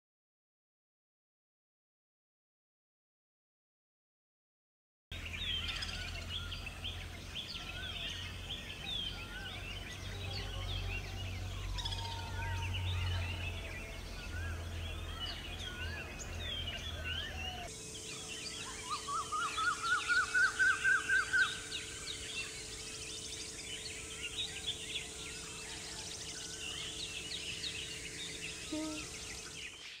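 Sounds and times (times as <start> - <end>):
birds chirping: 5.1 - 30.0
loud clear bird notes rising: 5.2 - 30.0.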